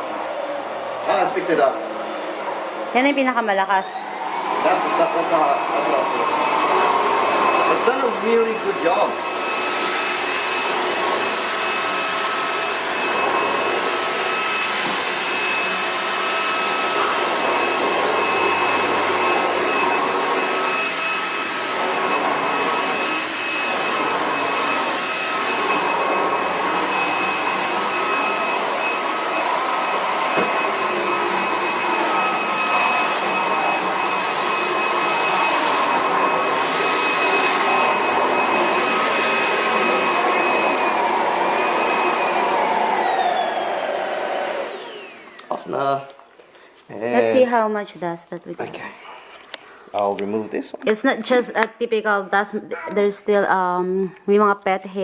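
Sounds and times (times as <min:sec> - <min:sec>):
vacuum cleaner motor whine: 0:00.0 - 0:46.0.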